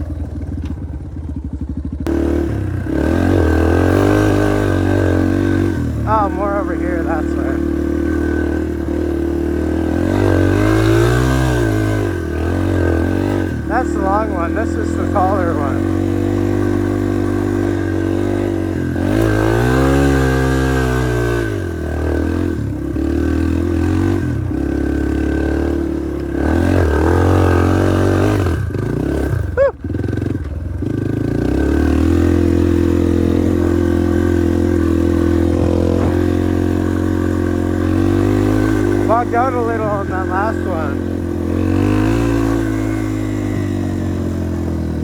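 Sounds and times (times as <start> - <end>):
dirt bike engine revving: 1.8 - 45.0.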